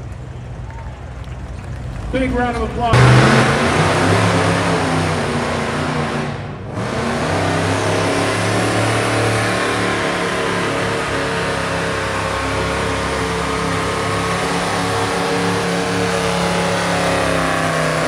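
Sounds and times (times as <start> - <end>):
pickup truck engine running: 0.0 - 18.0.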